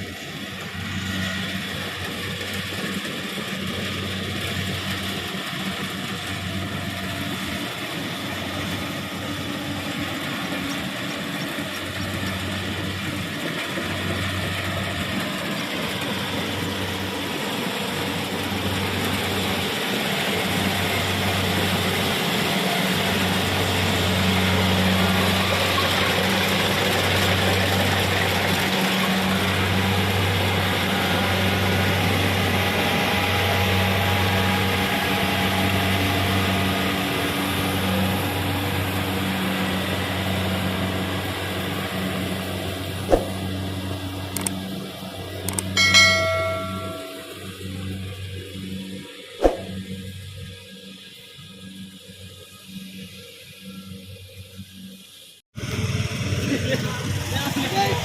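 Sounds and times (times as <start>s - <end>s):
combine harvester engine hum: 0.0s - 58.0s.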